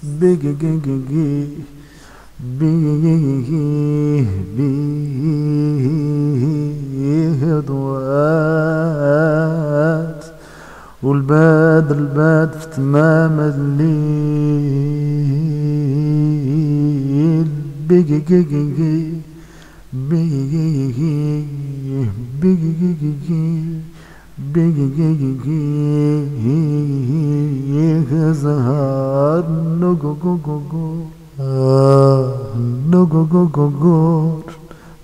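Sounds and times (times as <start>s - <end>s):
man chanting: 0.0s - 34.8s.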